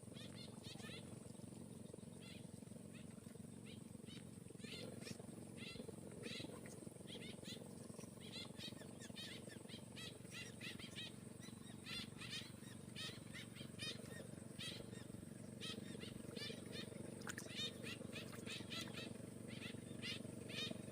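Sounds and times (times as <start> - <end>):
high insect drone: 0.0 - 20.9
low steady rumble: 0.0 - 20.9
birds chirping: 1.8 - 20.9.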